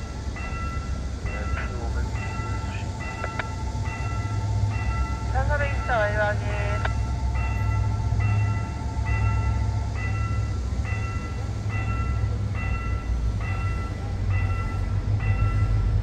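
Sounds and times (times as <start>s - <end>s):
level crossing bell ringing: 0.0s - 15.8s
train rumbling: 0.0s - 16.0s.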